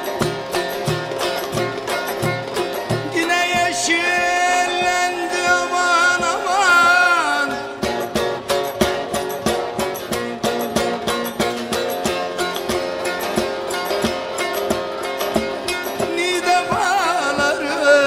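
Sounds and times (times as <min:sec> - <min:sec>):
plucked lute run: 0:00.0 - 0:18.0.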